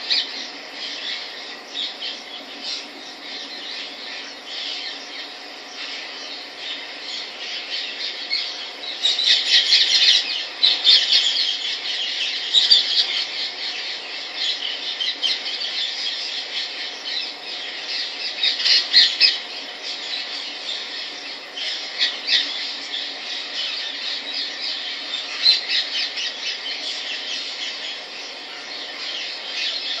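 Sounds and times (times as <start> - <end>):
parakeet chattering calls: 0.0 - 30.0.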